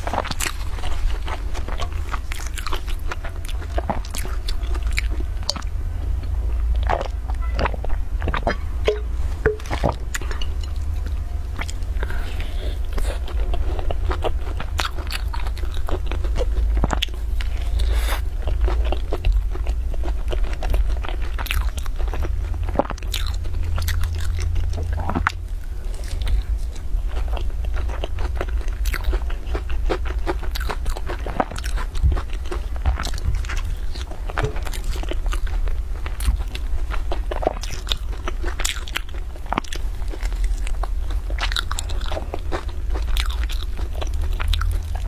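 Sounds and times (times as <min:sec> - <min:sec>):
crunching and chewing flatbread: 0:00.0 - 0:08.7, 0:09.3 - 0:45.0
steady low hum: 0:00.0 - 0:45.0.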